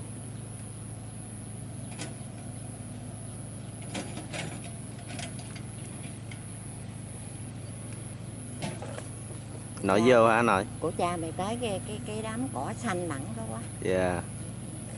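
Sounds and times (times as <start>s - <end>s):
diesel engine running under load: 0.0s - 14.9s.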